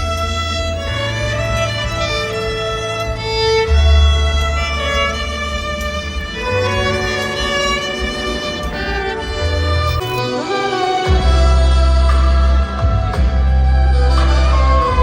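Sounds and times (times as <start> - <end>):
low accompaniment: 0.0 - 15.0
violin melody: 0.0 - 15.0.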